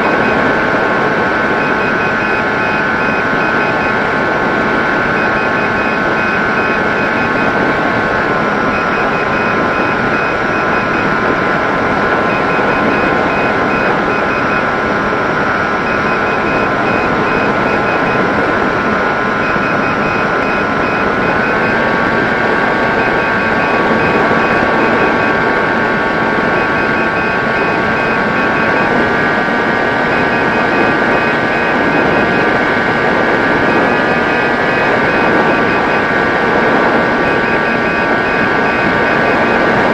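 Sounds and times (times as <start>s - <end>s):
electric motor and propeller whining: 0.0s - 39.9s
rushing noise: 0.0s - 39.9s.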